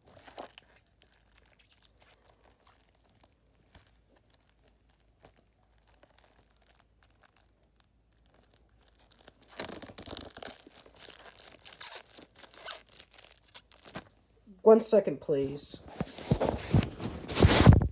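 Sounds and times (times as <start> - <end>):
plastic wrap tearing and crinkling: 0.0 - 14.2, 15.9 - 17.9.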